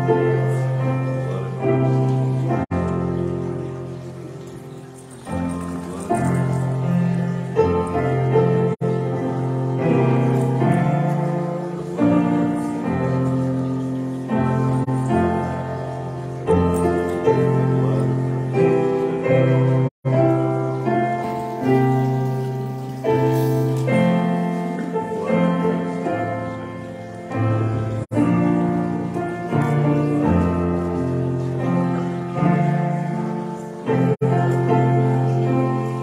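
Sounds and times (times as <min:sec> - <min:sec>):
slow keyboard chords: 0:00.0 - 0:36.0.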